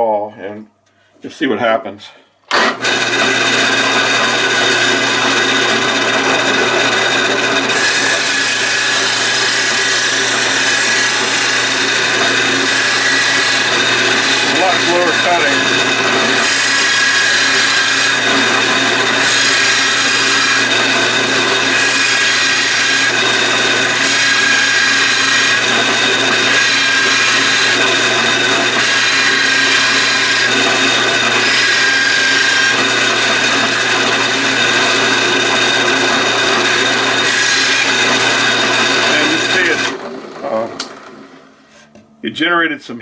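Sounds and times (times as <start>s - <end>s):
power drill with hole saw cutting wood: 2.5s - 41.8s.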